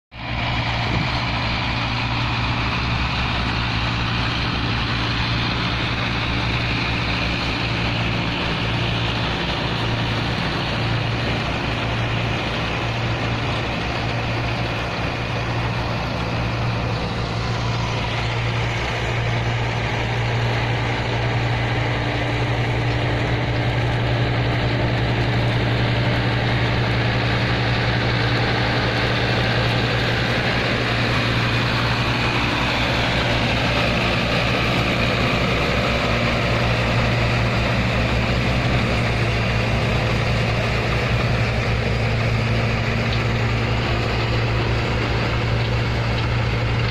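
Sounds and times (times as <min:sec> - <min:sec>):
tractor diesel engine running: 0:00.1 - 0:46.9.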